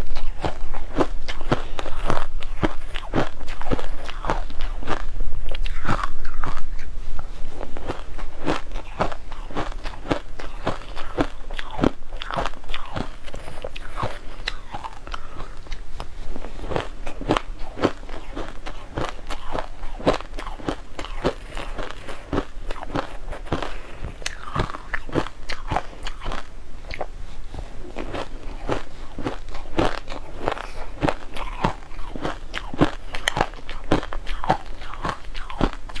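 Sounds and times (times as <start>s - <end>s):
chewing crunchy ice: 0.0s - 6.9s, 7.6s - 27.2s, 27.8s - 36.0s.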